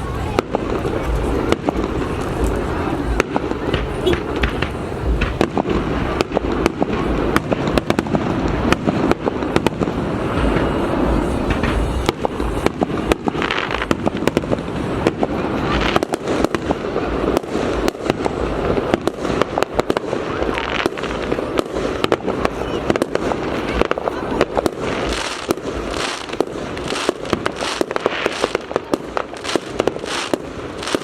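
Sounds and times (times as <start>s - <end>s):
fireworks bangs and cracks: 0.0s - 31.0s.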